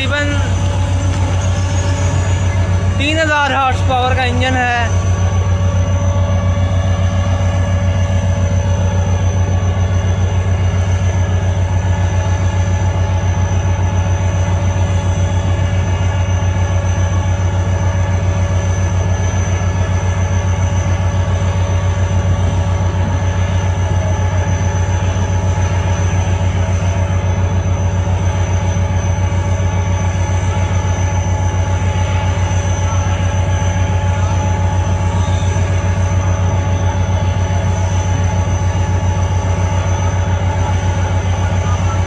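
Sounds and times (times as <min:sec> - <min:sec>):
faint steady whine: 0:00.0 - 0:42.0
locomotive engine throbbing: 0:00.0 - 0:42.0.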